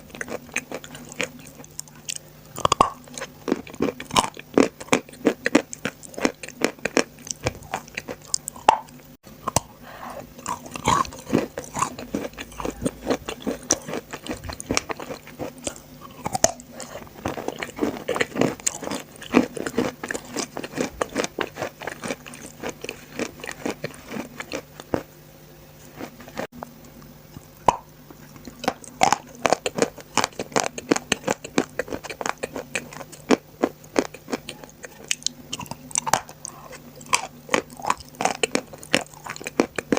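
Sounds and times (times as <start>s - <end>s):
chewing crunchy chalk: 0.0s - 25.1s, 25.8s - 27.1s, 27.7s - 39.9s.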